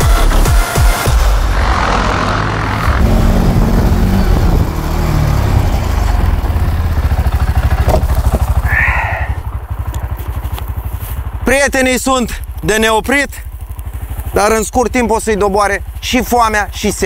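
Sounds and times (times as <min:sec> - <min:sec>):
quad engine idling: 0:01.4 - 0:17.0.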